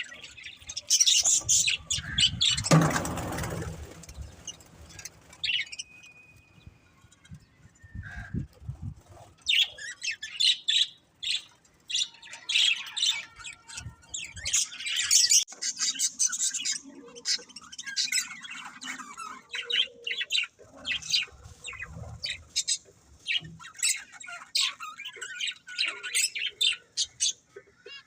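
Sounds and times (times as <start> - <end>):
budgerigars chirping and squawking: 0.0 - 6.2, 6.9 - 28.0.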